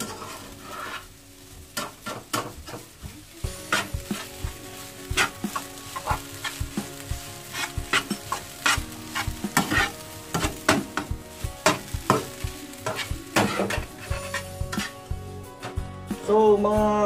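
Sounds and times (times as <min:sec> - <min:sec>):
metal spatula scraping frying pan: 0:00.0 - 0:03.0, 0:03.6 - 0:15.8
rice sizzling: 0:00.0 - 0:17.0.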